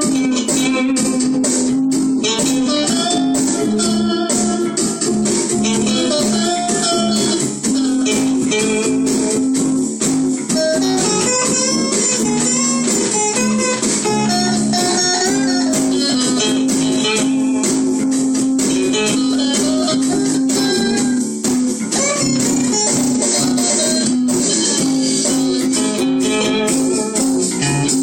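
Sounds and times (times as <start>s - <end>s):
blues guitars playing: 0.0s - 28.0s.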